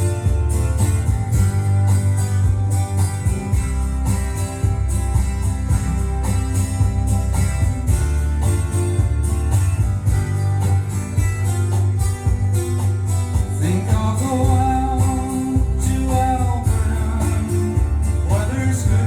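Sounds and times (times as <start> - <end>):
steady bass line: 0.0 - 19.0
strummed acoustic guitar: 0.0 - 19.0.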